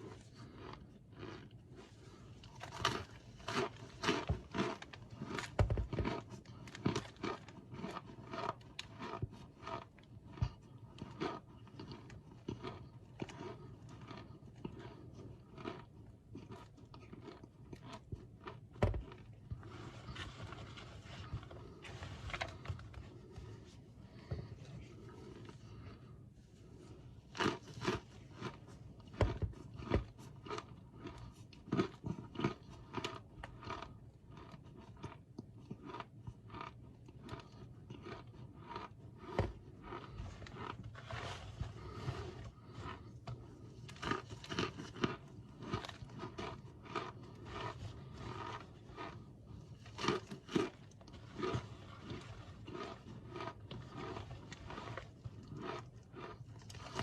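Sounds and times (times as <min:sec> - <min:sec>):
crunchy food being chewed: 0:00.0 - 0:57.0.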